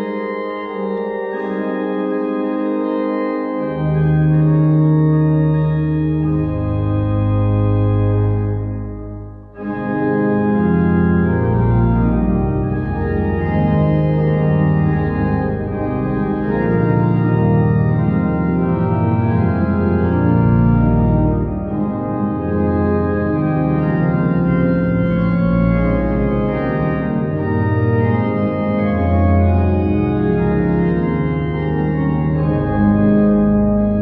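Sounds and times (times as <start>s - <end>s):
pipe organ chords: 0.0s - 34.0s.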